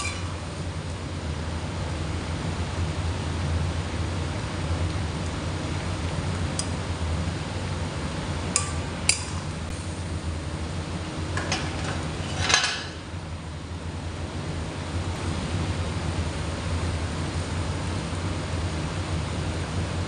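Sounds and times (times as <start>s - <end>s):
gas burner noise: 0.0s - 20.0s.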